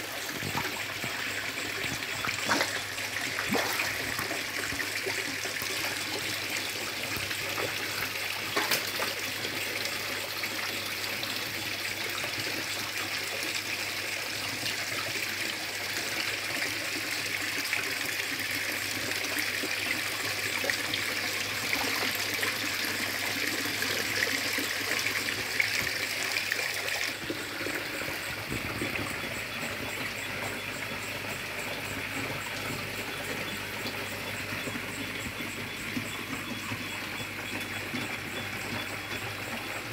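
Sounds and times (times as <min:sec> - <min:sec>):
water splashing into a pond: 0:00.0 - 0:11.6, 0:17.6 - 0:39.9.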